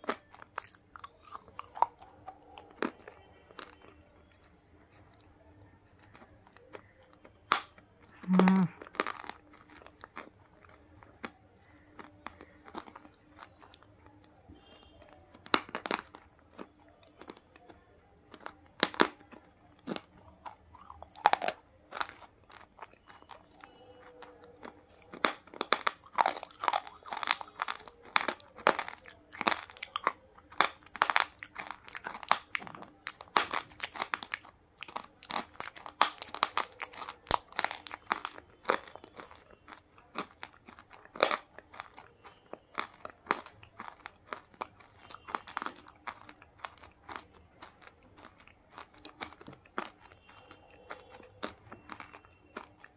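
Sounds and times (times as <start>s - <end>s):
chewing crunchy bars: 0.0s - 52.9s.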